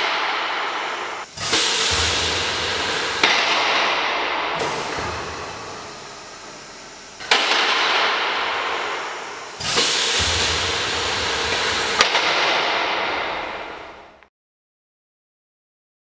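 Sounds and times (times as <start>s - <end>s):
compressed air hissing: 0.0s - 14.2s.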